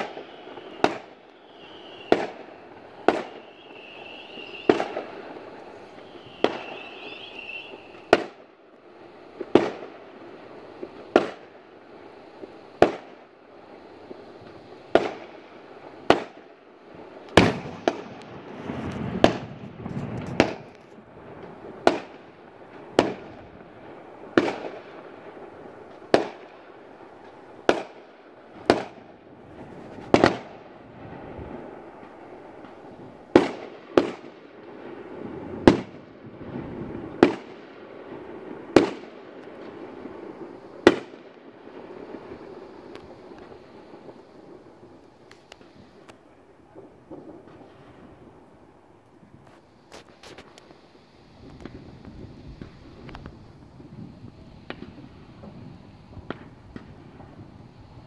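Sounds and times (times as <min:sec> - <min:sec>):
firework shells bursting: 0:00.0 - 0:58.0
fireworks crackling: 0:00.0 - 0:58.0.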